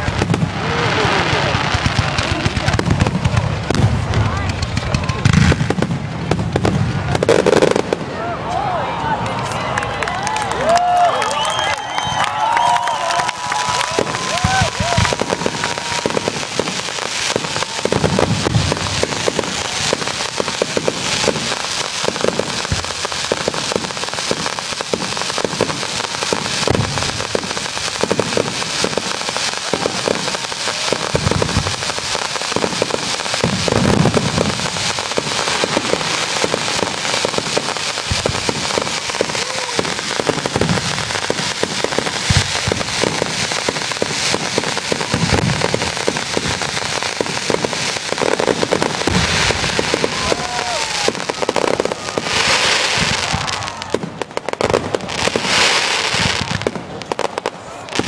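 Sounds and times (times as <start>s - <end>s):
firework shells booming: 0.0s - 8.2s, 13.6s - 58.0s
fireworks crackling: 0.0s - 58.0s.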